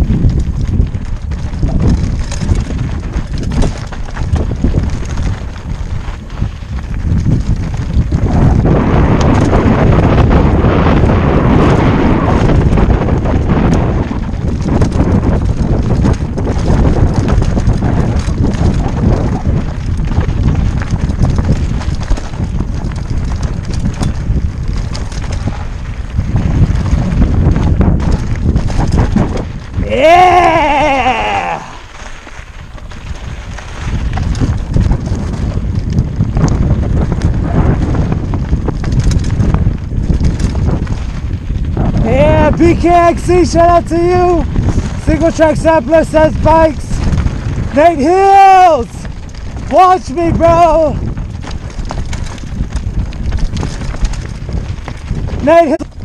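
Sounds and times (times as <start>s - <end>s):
tyres crunching over stones: 0.0s - 9.8s, 11.6s - 42.8s, 48.8s - 56.0s
bike rattling: 0.0s - 56.0s
wind buffeting microphone: 0.0s - 56.0s.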